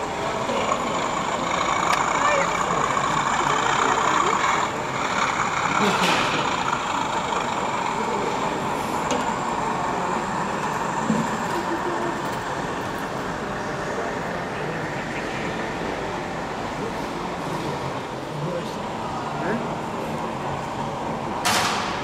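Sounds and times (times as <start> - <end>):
murmur of crowd voices: 0.0 - 22.0.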